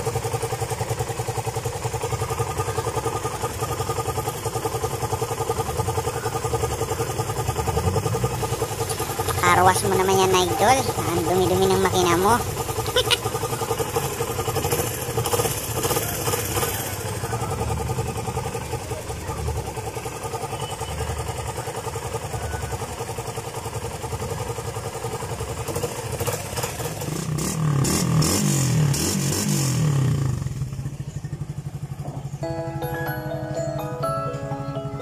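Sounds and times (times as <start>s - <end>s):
motorcycle engine idling: 0.0s - 33.5s.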